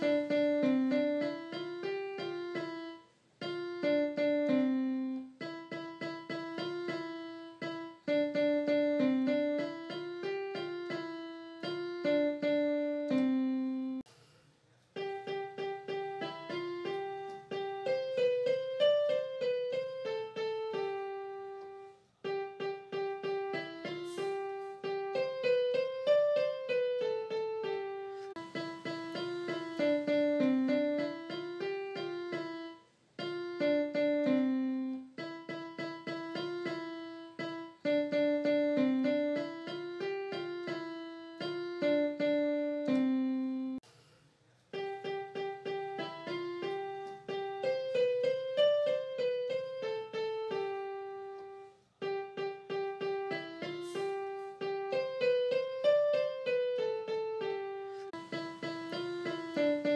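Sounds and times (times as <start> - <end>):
light keyboard melody: 0.0 - 14.1, 15.0 - 43.8, 44.7 - 59.9.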